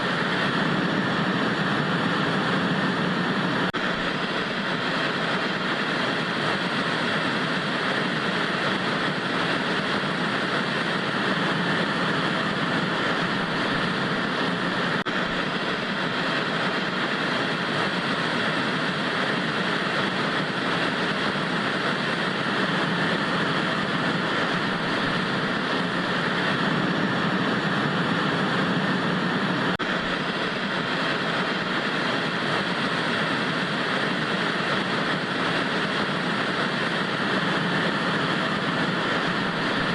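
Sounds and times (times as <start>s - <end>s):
static white noise hiss: 0.0s - 39.9s.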